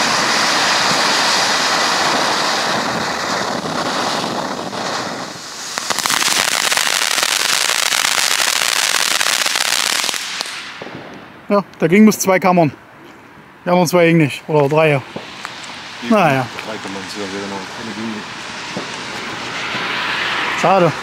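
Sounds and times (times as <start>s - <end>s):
firework crackling: 0.0s - 12.2s, 13.8s - 21.0s
firework fountain hissing: 0.0s - 12.2s, 14.0s - 21.0s.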